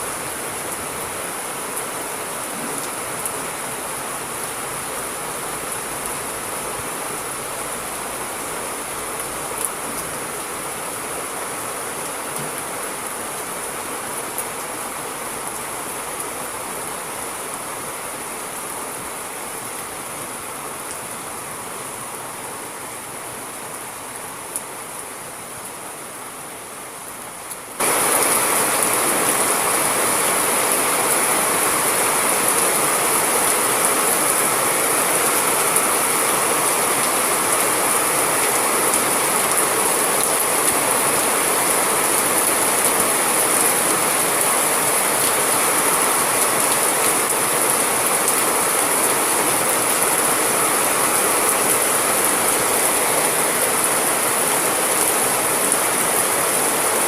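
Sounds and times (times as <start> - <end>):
heavy downpour: 0.0 - 57.0
rain hiss: 0.0 - 57.0.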